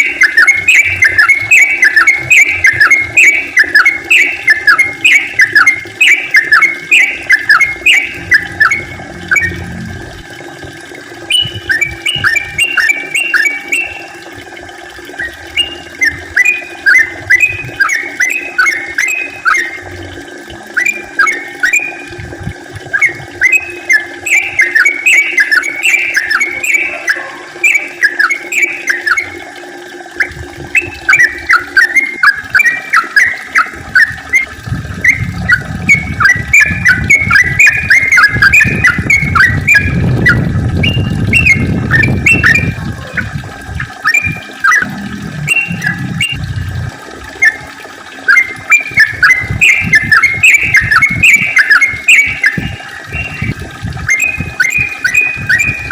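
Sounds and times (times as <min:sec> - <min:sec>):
bulbul singing chirpy notes: 0:00.0 - 0:55.9.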